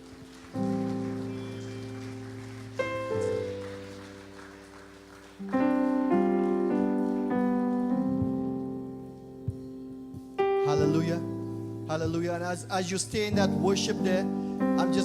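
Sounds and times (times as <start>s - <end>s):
keyboard playing worship chords: 0.0s - 15.0s.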